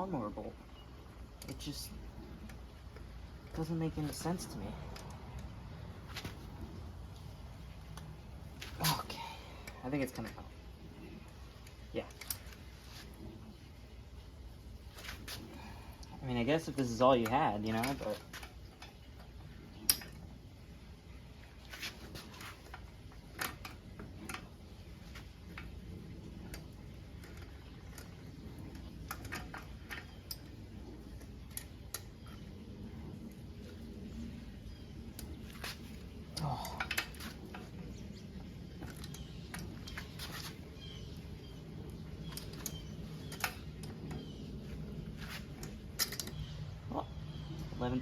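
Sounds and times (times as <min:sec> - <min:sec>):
low steady hum: 0:00.0 - 0:48.0.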